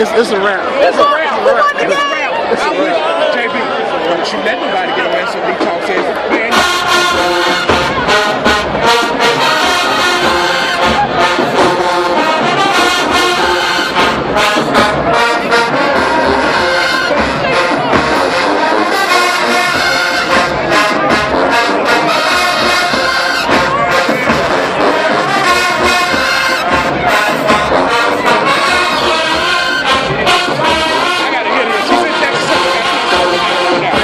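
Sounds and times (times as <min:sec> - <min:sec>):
marching band brass: 0:00.0 - 0:34.0.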